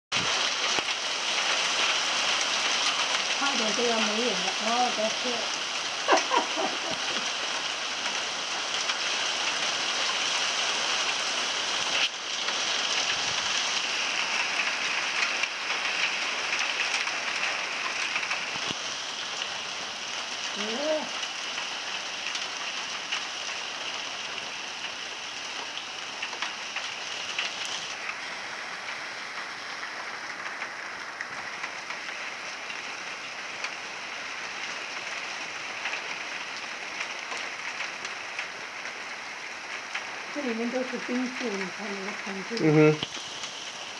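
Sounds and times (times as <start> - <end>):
hail pelting concrete: 0.1 - 43.9.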